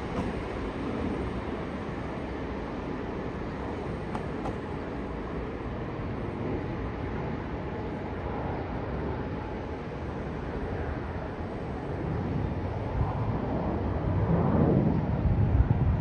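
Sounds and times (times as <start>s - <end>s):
jet airliner engine roar: 0.0s - 16.0s.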